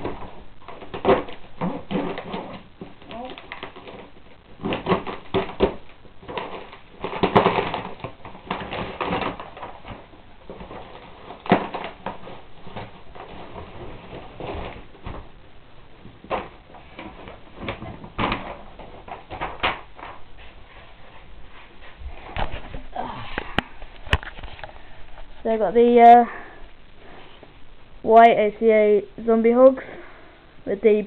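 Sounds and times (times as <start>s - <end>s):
rustling: 0.0s - 28.0s.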